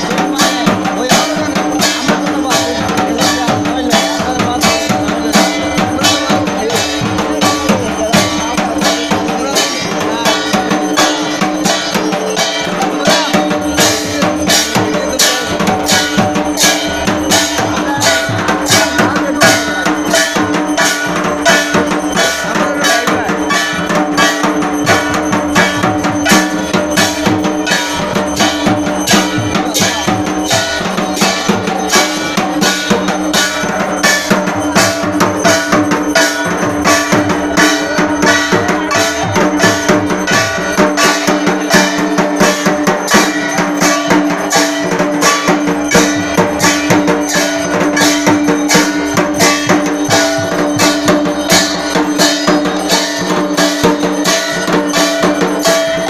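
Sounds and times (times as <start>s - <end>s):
barrel drums beaten fast: 0.0s - 56.0s
metal percussion clanging: 0.0s - 56.0s.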